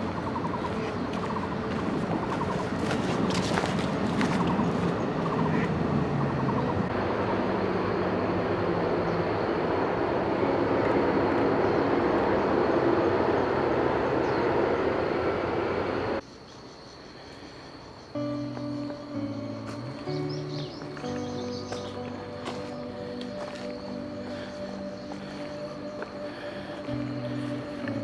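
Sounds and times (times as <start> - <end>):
train passing close by: 0.0 - 16.2, 18.1 - 28.0.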